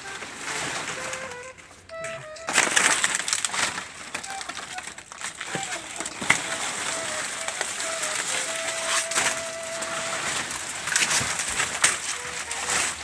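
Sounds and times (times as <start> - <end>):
faint thin tune: 0.0 - 13.0
leaves rustling and crackling: 0.0 - 13.0.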